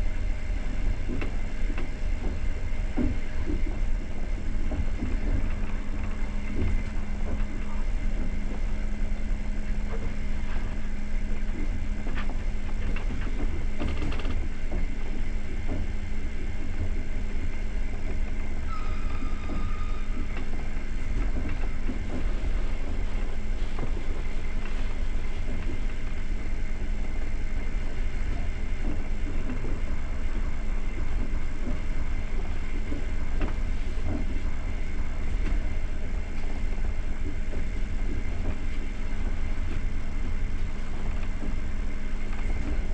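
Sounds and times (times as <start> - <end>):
low constant hum: 0.0 - 42.9
train wheels rumbling on rails: 0.0 - 42.9.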